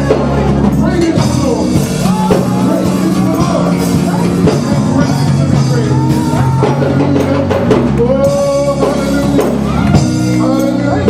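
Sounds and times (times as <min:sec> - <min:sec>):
band playing with drums: 0:00.0 - 0:11.0
voices singing: 0:00.0 - 0:11.0.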